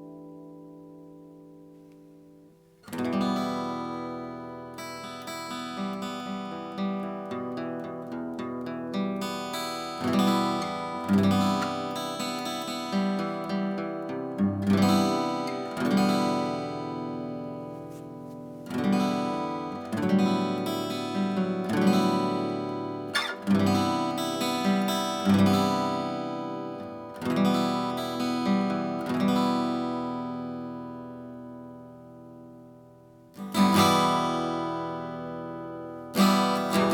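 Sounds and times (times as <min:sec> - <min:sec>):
acoustic guitar strummed chords: 0:00.0 - 0:36.9.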